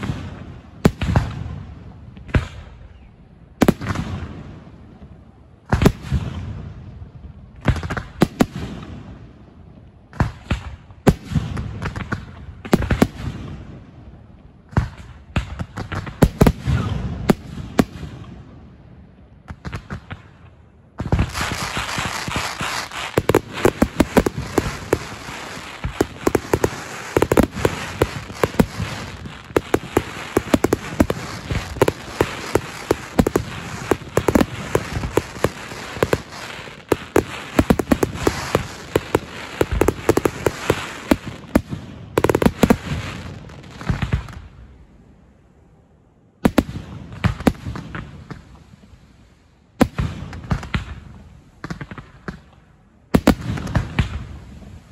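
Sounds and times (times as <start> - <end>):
fireworks bangs and crackling: 0.0 - 44.7, 46.4 - 49.0, 49.8 - 54.9.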